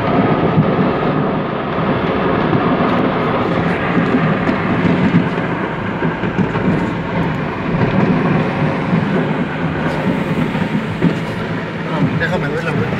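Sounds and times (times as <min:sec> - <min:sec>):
car road and engine noise: 0:00.0 - 0:12.9.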